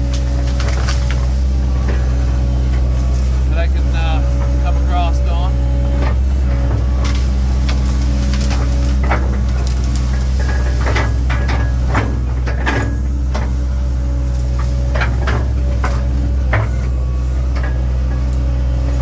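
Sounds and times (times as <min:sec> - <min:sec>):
clanks and knocks from tracks: 0:00.0 - 0:19.0
excavator diesel engine running: 0:00.0 - 0:19.0.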